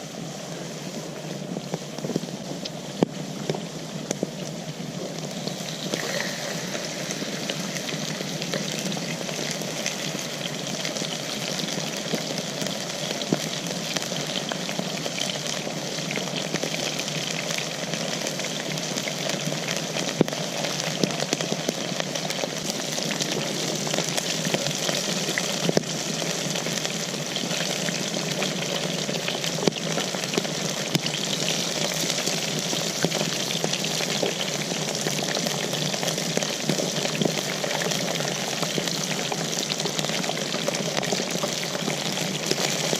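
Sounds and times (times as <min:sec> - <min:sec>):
potatoes sizzling in hot oil: 0:00.0 - 0:42.9.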